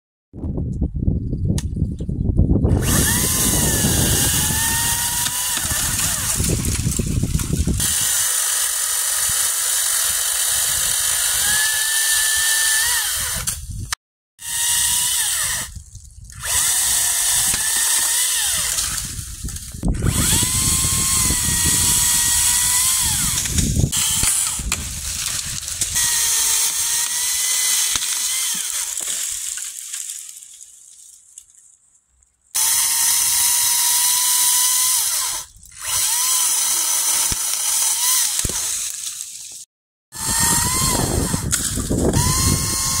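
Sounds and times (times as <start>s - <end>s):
electric chainsaw cutting wood: 2.7s - 13.7s, 14.4s - 30.0s, 32.6s - 43.0s.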